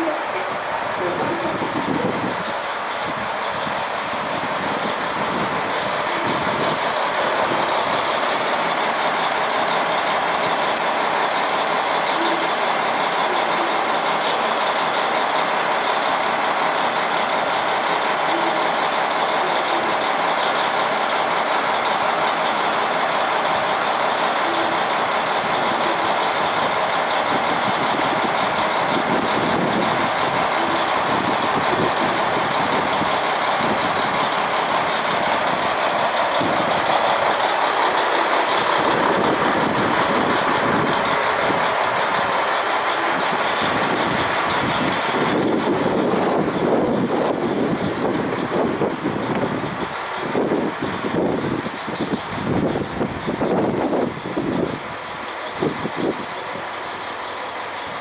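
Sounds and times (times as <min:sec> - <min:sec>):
diesel railcar engines idling: 0:00.0 - 0:58.0.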